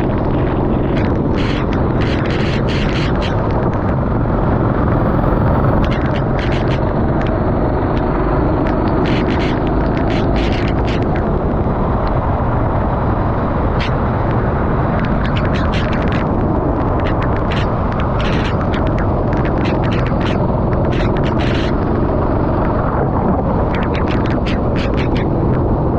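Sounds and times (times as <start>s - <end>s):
kart engine rumble: 0.0s - 25.9s.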